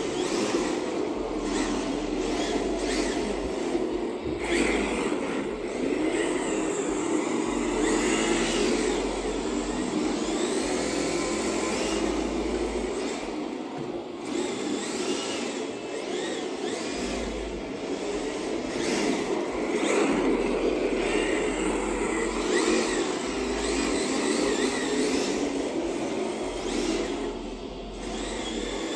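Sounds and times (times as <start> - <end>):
rc car motor whining: 0.0 - 28.9.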